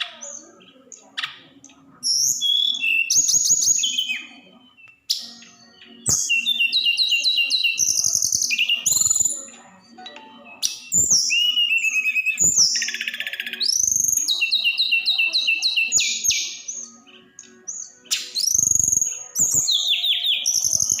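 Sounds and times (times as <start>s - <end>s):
songbird singing whistled trills: 0.0s - 21.0s.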